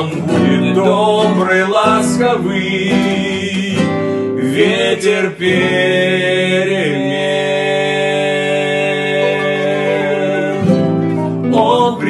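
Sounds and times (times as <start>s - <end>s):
acoustic guitars: 0.0s - 12.0s
man singing a slow song: 0.0s - 12.0s.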